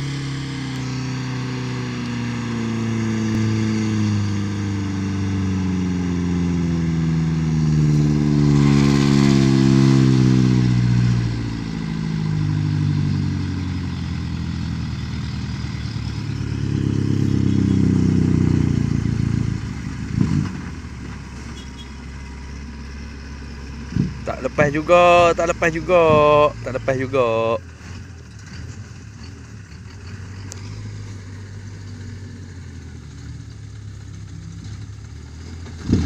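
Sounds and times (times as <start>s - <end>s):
heavy diesel engines labouring: 0.0s - 36.0s.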